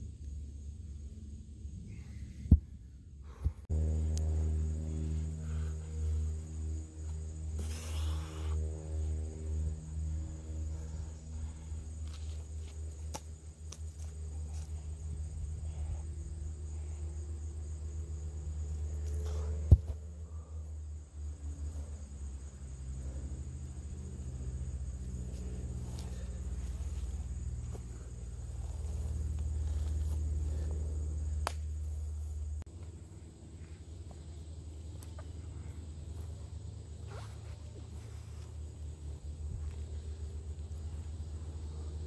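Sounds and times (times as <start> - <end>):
high insect drone: 0.0 - 42.0
steady low rumble: 0.0 - 42.0.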